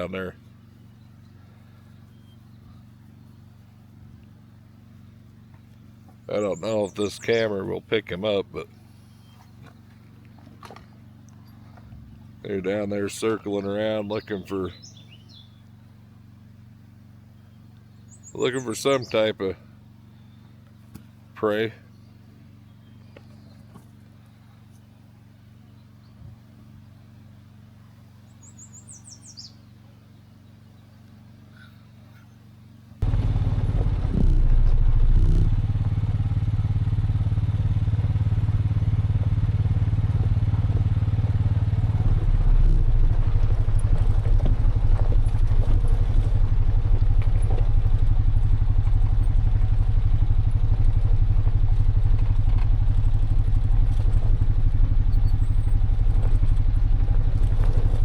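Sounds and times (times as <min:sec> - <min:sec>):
vehicle engine low drone: 0:00.0 - 0:58.0.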